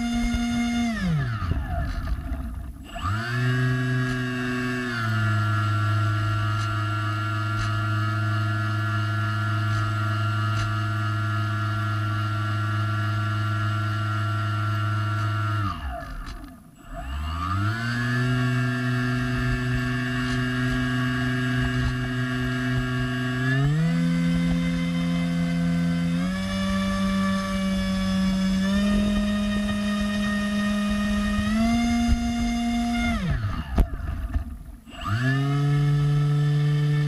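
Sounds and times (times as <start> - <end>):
model airboat motor humming: 0.0 - 37.0.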